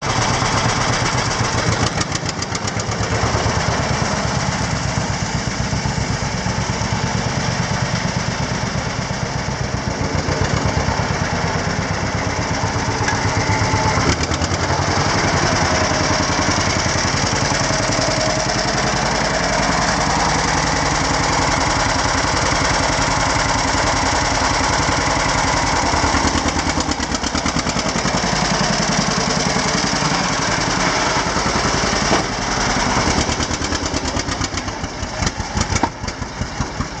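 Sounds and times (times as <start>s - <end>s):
tractor engine pulsing: 0.0s - 37.0s.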